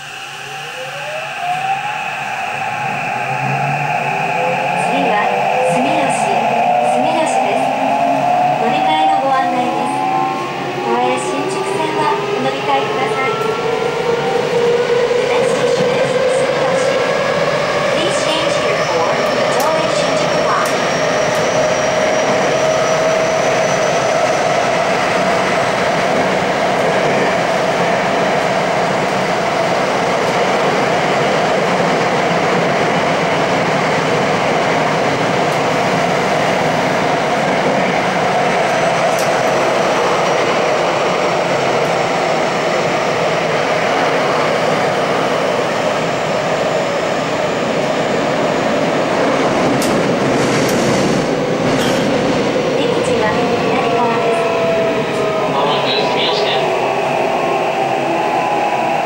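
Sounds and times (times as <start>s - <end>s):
subway train wheels roaring: 0.0s - 59.0s.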